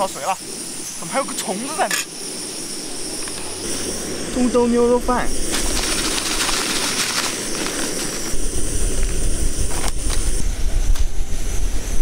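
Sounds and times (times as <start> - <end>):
gas stove roaring hiss: 0.0 - 12.0
wind buffeting microphone: 0.0 - 12.0.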